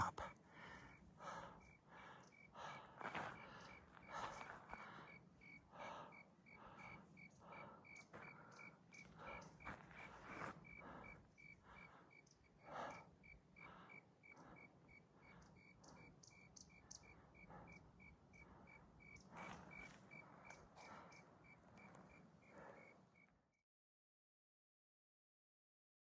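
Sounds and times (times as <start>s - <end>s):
faint heavy breathing: 0.0s - 23.2s.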